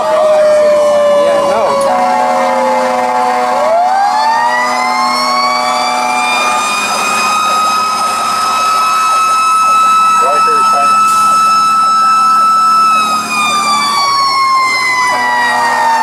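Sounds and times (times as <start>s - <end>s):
mechanical fire siren wailing: 0.0s - 16.0s
steady horn tone: 1.4s - 9.2s, 9.9s - 16.0s.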